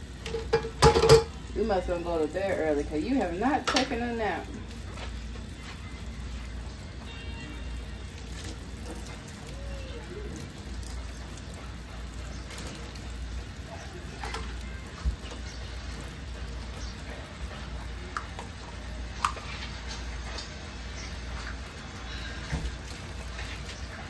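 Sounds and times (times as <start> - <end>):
water running from a tap: 0.0 - 24.0.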